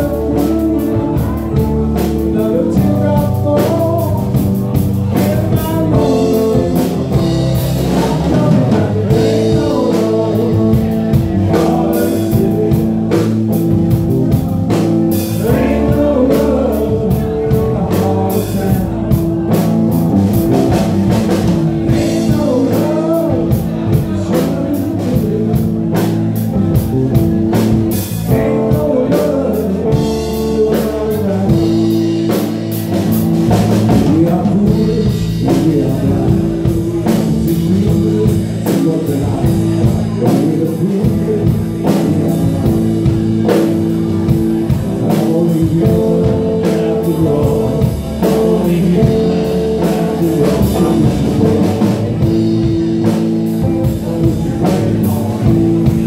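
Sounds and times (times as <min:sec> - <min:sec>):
drum kit beat: 0:00.0 - 0:56.0
electric bass: 0:00.0 - 0:56.0
electric guitar: 0:00.0 - 0:56.0
man singing: 0:00.0 - 0:56.0.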